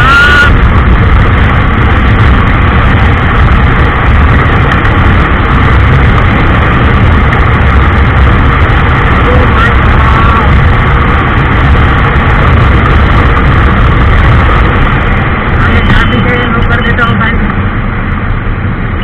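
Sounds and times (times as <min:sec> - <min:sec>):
motorcycle engine running: 0:00.0 - 0:16.7
wind buffeting microphone: 0:00.0 - 0:16.7.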